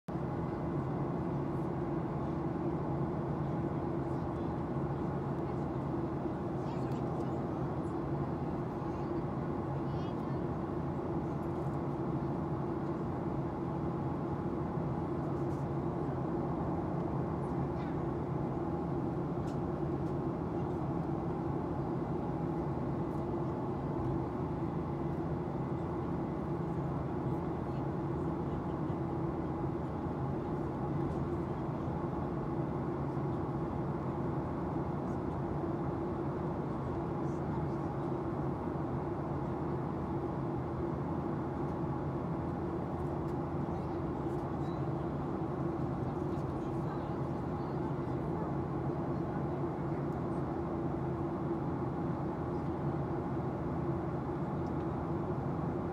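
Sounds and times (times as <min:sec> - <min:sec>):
airplane cabin engine roar: 0:00.1 - 0:55.9.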